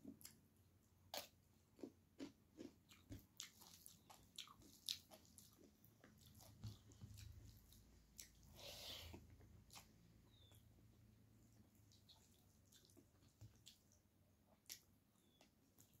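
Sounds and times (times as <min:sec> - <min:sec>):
person chewing food: 0:00.0 - 0:10.7, 0:11.4 - 0:16.0.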